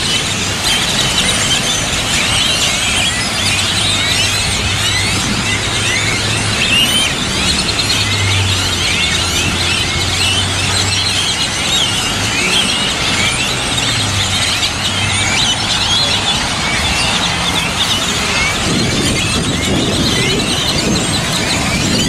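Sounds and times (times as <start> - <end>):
flock of birds chattering: 0.0 - 22.0
low traffic hum: 0.0 - 22.0.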